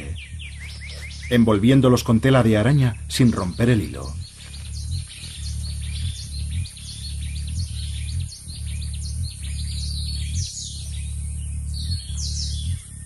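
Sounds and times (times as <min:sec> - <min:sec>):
high-pitched bird chirps: 0:00.0 - 0:13.0
hummingbird wings humming: 0:00.0 - 0:13.0.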